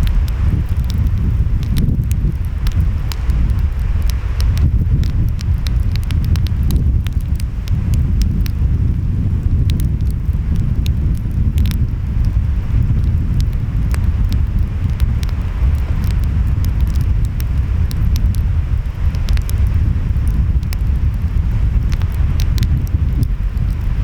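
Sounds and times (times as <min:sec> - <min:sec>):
wind: 0:00.0 - 0:24.0
wood fire crackling and popping: 0:00.0 - 0:24.0.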